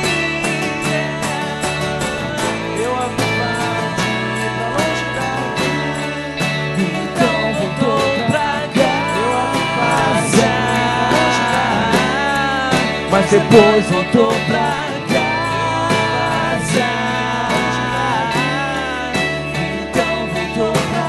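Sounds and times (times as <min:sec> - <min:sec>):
acoustic bass guitar: 0:00.0 - 0:21.0
acoustic guitar: 0:00.0 - 0:21.0
man singing: 0:00.0 - 0:21.0.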